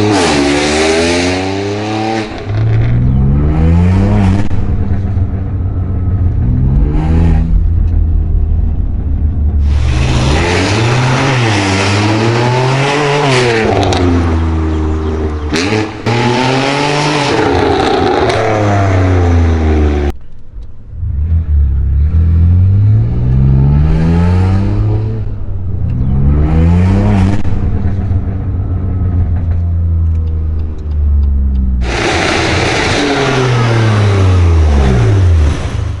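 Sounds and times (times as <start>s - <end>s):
car engine revving: 0.0s - 20.2s, 20.8s - 36.0s.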